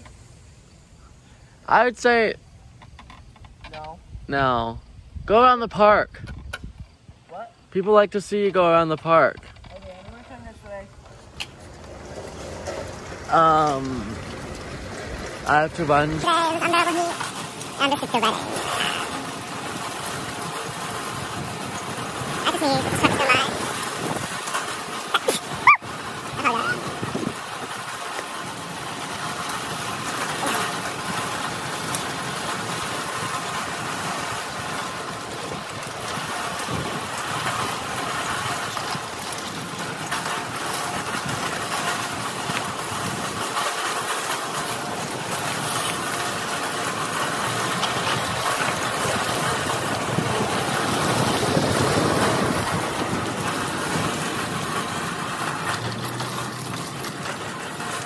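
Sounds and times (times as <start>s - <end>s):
wagon rolling and rattling on asphalt: 0.0s - 4.2s, 5.3s - 58.0s.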